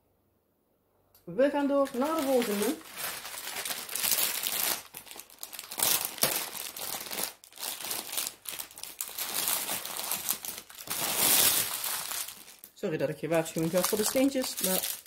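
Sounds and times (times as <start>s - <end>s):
plastic bags crinkling: 1.6s - 15.0s.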